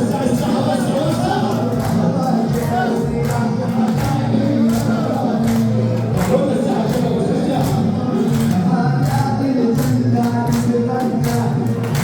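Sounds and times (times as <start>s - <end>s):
men singing: 0.0s - 12.0s
percussion with steady beat: 0.0s - 12.0s.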